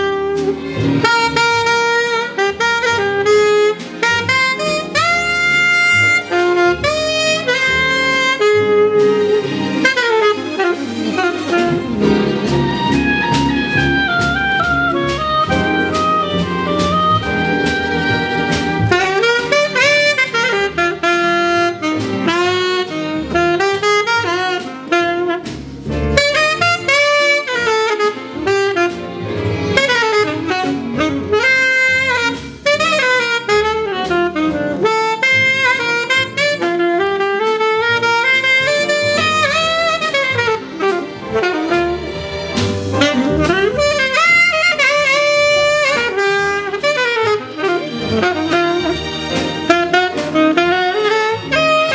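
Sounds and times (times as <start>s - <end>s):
jazz saxophone playing: 0.0s - 51.9s.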